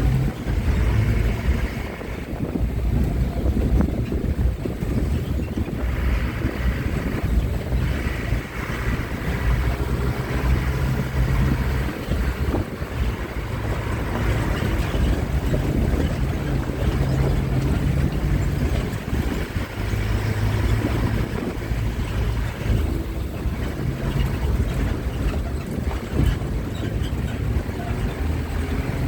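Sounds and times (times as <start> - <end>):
bus engine droning: 0.0 - 29.0
road rumble: 0.0 - 29.0
wind buffeting microphone: 0.0 - 29.0.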